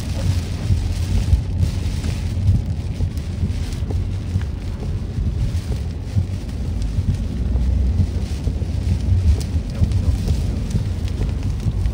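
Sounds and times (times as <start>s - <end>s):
heavy rain on a car: 0.0s - 11.9s
steady low rumble: 0.0s - 11.9s.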